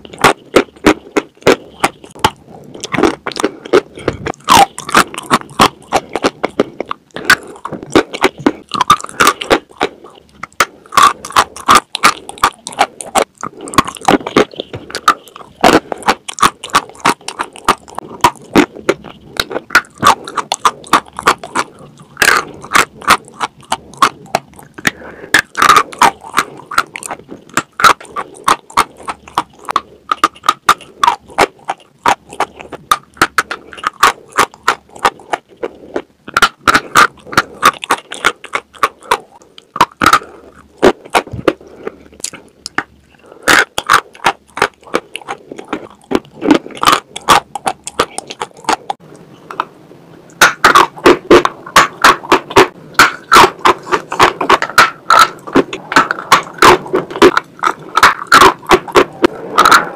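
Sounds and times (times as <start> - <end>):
chalk being bitten and chewed: 0.0 - 49.7, 50.3 - 59.9.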